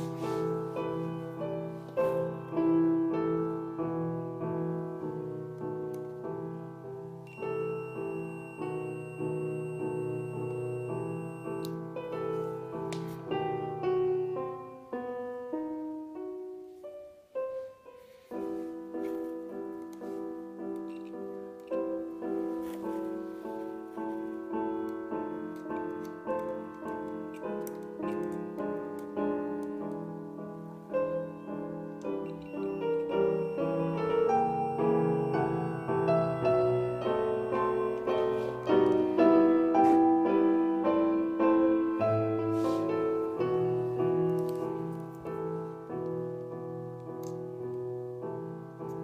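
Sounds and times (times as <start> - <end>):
classical piano music: 0.0 - 49.0.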